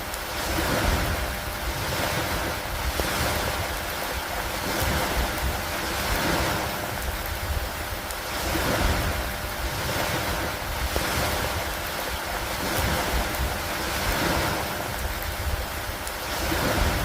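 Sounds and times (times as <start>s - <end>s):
rain on dock and water: 0.0s - 17.0s
water wash: 0.0s - 17.0s.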